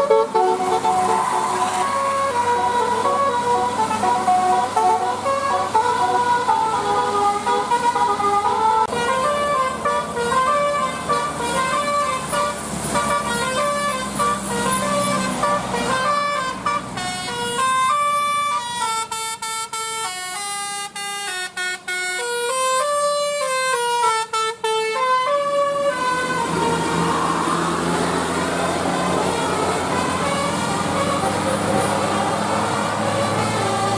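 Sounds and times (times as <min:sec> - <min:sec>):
musical air horn playing a tune: 0:00.0 - 0:33.9
vehicle rumble: 0:00.0 - 0:33.9.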